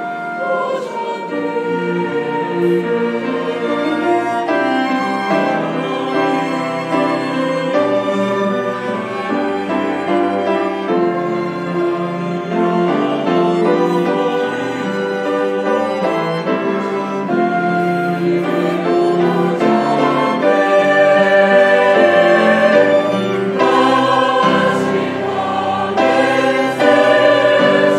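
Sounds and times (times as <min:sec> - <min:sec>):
flute: 0:00.0 - 0:12.3, 0:13.4 - 0:27.9
cellos: 0:00.0 - 0:27.9
clarinet: 0:00.0 - 0:27.9
piano: 0:00.0 - 0:27.9
violin: 0:00.0 - 0:27.9.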